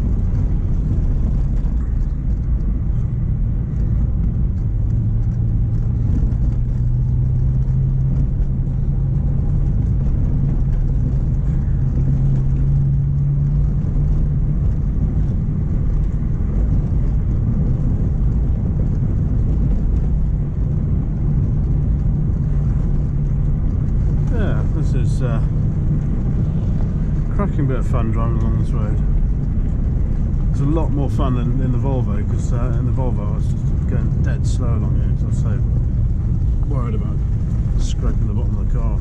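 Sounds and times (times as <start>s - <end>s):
car engine: 0.0s - 39.0s
road noise: 0.0s - 39.0s.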